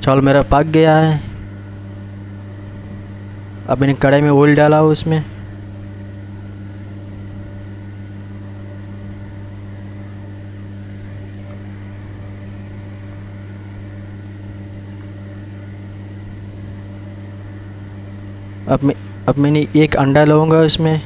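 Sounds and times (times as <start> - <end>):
kitchen machinery hum: 0.0 - 21.0.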